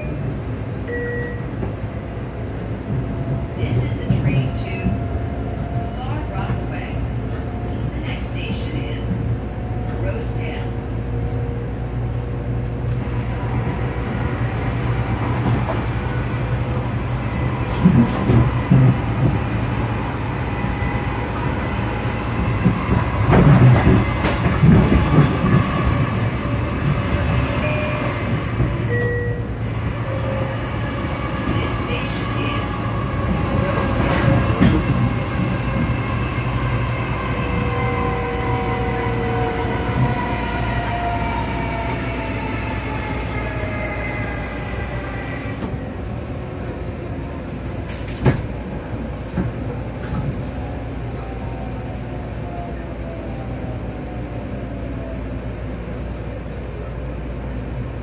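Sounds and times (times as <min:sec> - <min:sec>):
train rumble with motor whine: 0:00.0 - 0:58.0.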